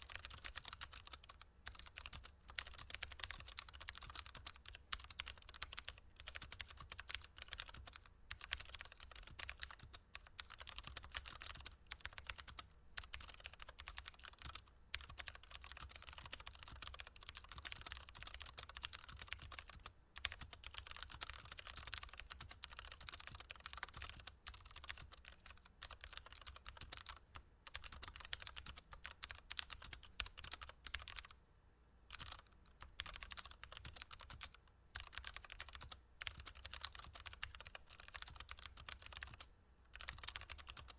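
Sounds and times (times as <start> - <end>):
mechanical keyboard typing: 0.0 - 31.4, 32.1 - 40.9.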